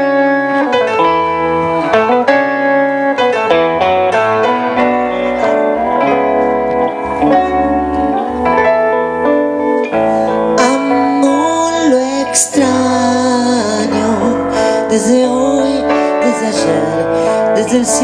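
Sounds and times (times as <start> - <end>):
electric guitars: 0.0 - 18.0
keyboard: 0.0 - 18.0
live band playing: 0.0 - 18.0.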